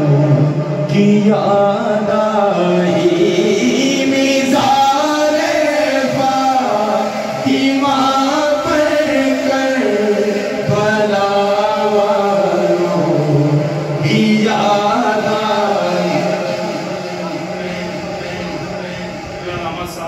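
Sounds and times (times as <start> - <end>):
men singing through pa: 0.0 - 19.4.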